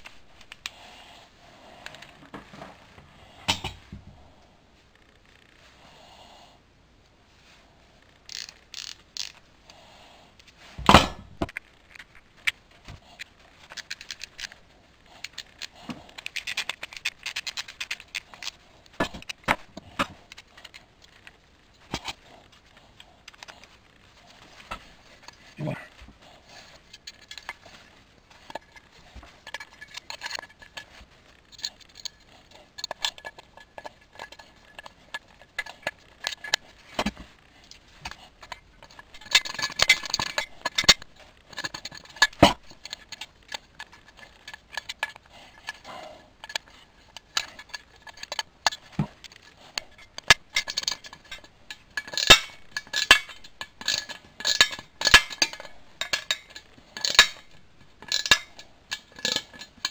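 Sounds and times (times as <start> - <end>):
metal and wood parts clinking: 8.2 - 9.5, 10.4 - 59.9.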